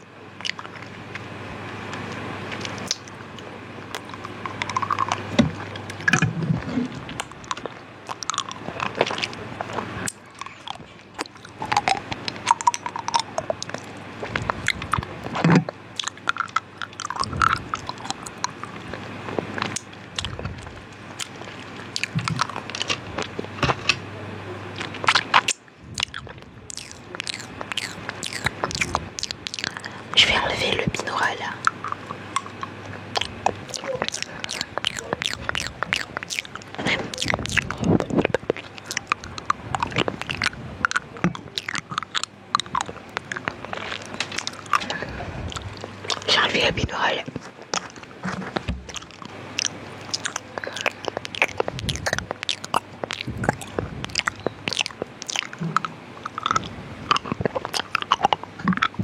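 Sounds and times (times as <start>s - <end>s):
mouth clicks close to microphone: 0.0s - 1.2s, 1.9s - 24.0s, 24.7s - 59.0s.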